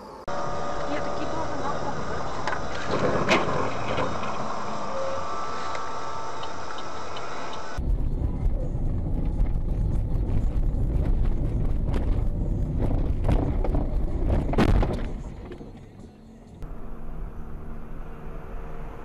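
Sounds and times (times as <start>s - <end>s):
car road noise: 0.0s - 19.0s
tyre and road rumble: 0.3s - 19.0s.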